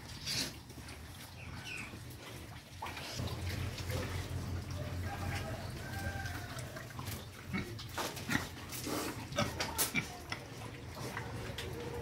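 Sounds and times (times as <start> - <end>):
pigs chewing and rooting: 0.0 - 12.0.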